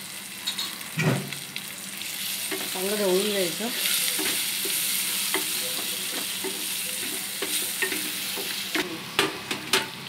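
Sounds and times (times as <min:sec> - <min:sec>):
eggs sizzling in hot oil: 0:00.0 - 0:10.0.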